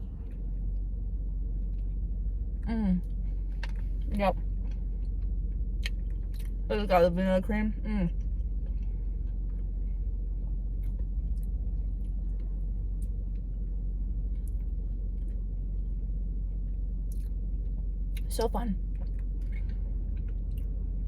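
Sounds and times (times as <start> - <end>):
car idling inside cabin: 0.0 - 21.0
person chewing food: 1.6 - 6.6, 8.2 - 18.3, 18.9 - 21.0.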